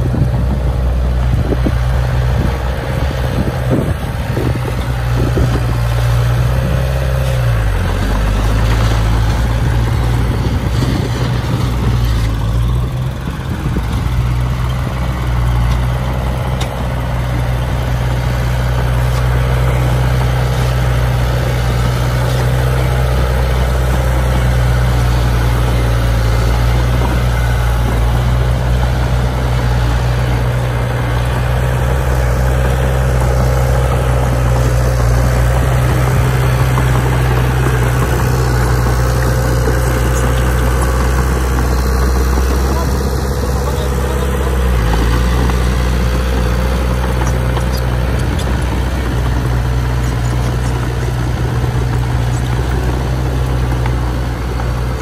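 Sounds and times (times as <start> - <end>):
heavy diesel machinery engine running: 0.0 - 55.0.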